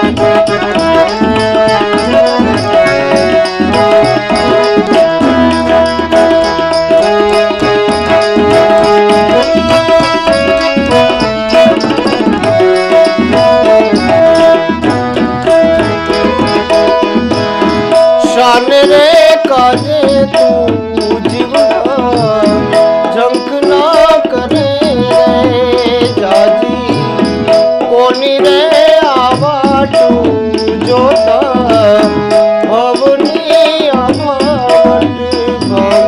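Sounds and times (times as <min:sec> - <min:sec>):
harmonium melody: 0:00.0 - 0:36.0
man singing: 0:00.0 - 0:36.0
tabla rhythm: 0:00.0 - 0:36.0.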